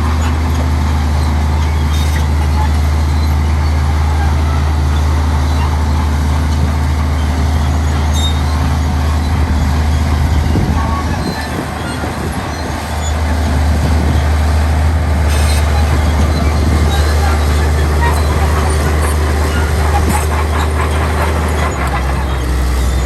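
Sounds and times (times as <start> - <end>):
diesel engine drone: 0.0 - 23.0.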